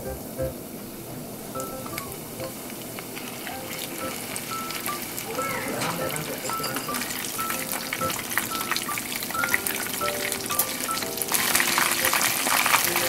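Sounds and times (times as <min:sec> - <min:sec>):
deep-frying sizzle in oil: 0:01.6 - 0:13.0.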